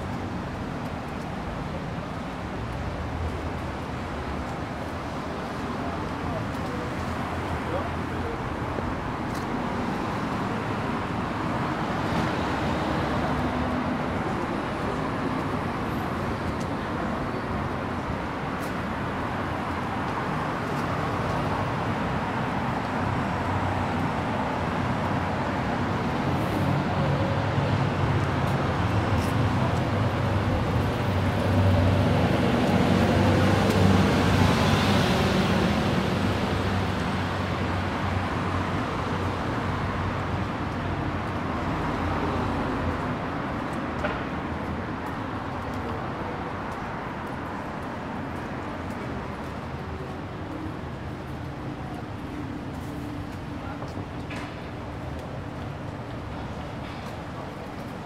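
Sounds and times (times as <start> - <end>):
cars passing on street: 0.0 - 58.0.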